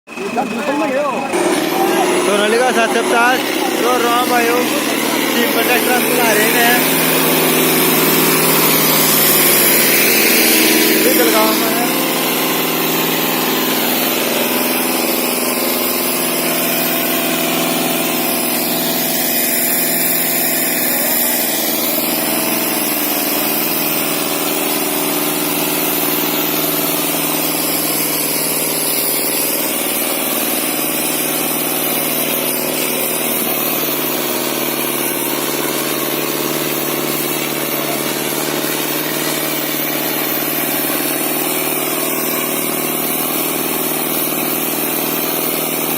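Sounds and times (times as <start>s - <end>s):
tractor diesel engine running: 0.1s - 45.9s.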